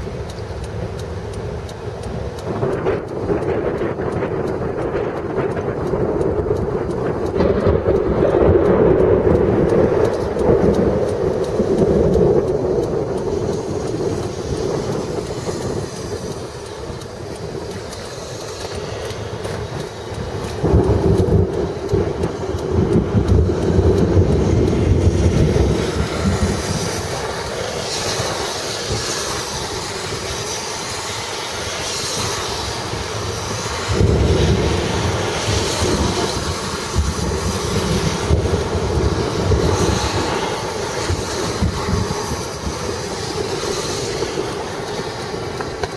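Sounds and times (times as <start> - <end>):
storm wind buffeting microphone: 0.0 - 45.9.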